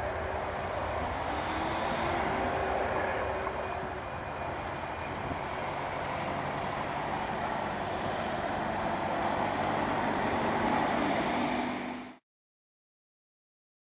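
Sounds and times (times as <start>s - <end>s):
jet engines running: 0.0s - 12.2s.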